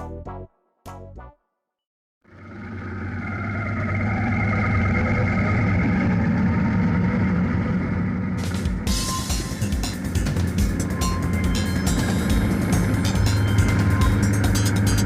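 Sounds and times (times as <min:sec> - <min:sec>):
motorcycle engine hum: 0:02.3 - 0:15.0.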